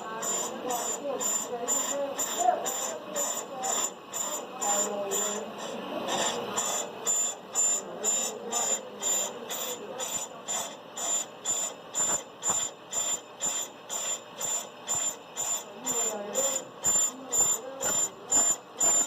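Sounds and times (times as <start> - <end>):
lathe cutting bit squealing: 0.0 - 19.0
lathe running steadily: 0.0 - 19.0.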